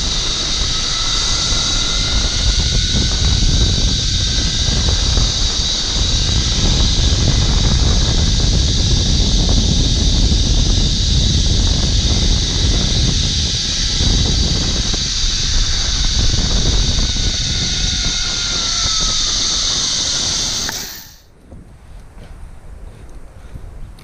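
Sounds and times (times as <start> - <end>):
falling whine: 0.0 - 21.4
zip line pulleys whirring: 0.0 - 21.4
wind rushing on microphone: 0.0 - 24.0.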